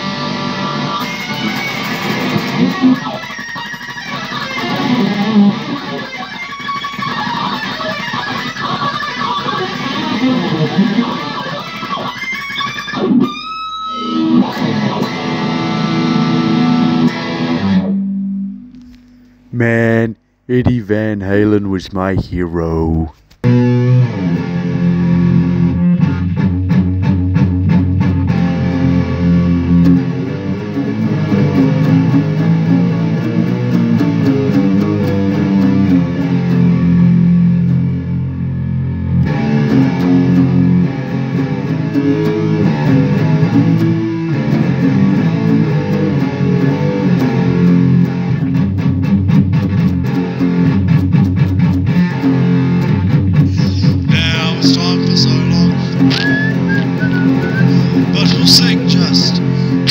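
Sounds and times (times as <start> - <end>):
electric guitar rock piece: 0.0 - 19.4, 23.4 - 59.9.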